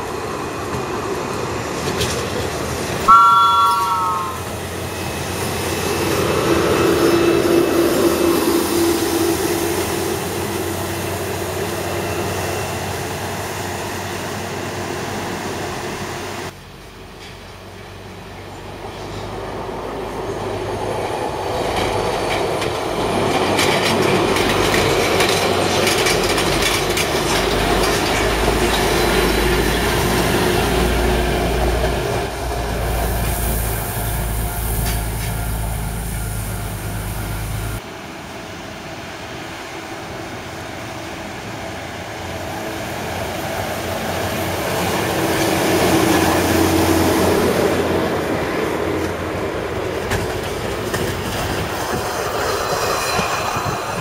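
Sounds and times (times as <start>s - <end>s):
train engine low hum: 0.0s - 54.0s
train wheels on track: 0.0s - 54.0s.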